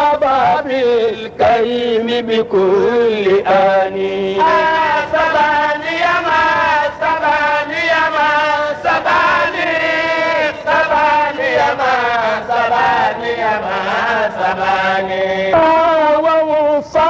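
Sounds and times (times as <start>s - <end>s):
man chanting: 0.0s - 8.8s, 9.9s - 17.0s.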